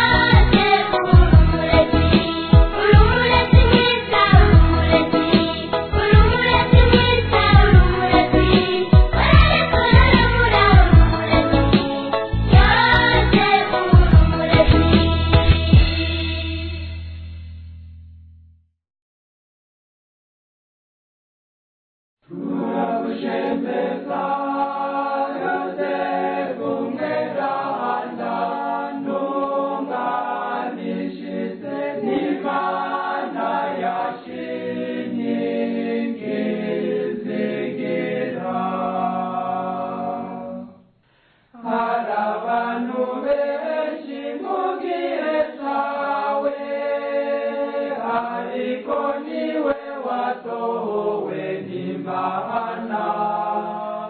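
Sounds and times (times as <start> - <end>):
choir singing a hymn: 0.0 - 15.9, 22.3 - 40.7, 41.6 - 54.0.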